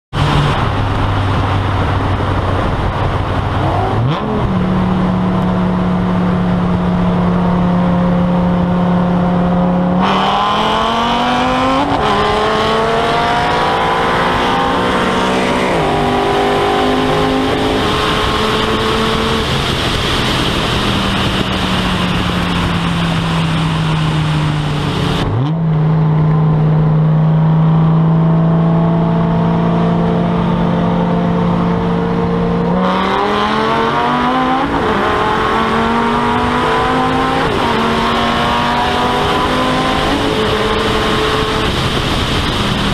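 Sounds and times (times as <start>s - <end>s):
racing car engines at full throttle: 0.1s - 42.9s.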